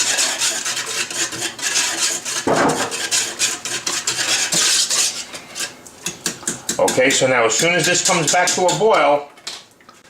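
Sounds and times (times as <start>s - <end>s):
utensil scraping metal pot: 0.0s - 9.2s.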